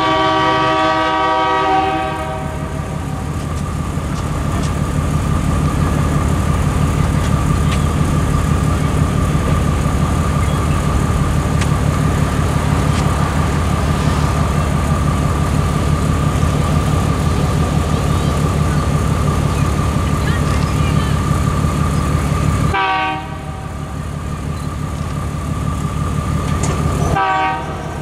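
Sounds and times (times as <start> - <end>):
diesel locomotive engine rumble: 0.0 - 28.0.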